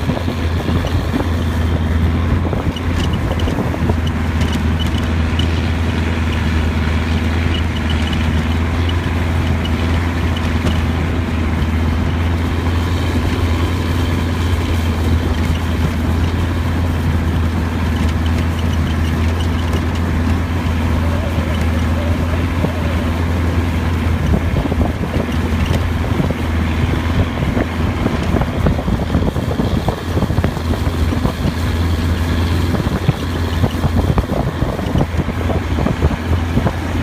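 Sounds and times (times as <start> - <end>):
boat engine droning: 0.0 - 37.0
water noise: 0.0 - 37.0
wind noise: 0.0 - 37.0.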